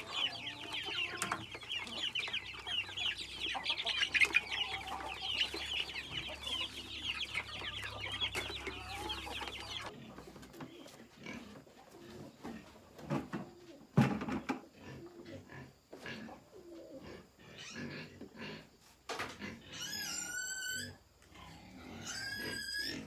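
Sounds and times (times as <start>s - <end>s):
chickens clucking and cheeping: 0.0s - 23.0s
scattered animal sounds: 0.0s - 23.0s.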